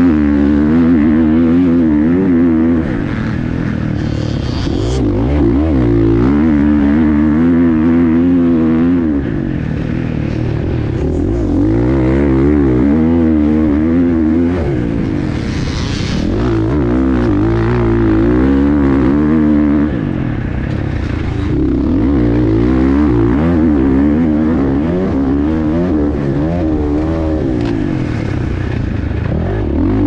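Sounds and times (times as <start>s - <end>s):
motocross engine revving: 0.0s - 30.0s.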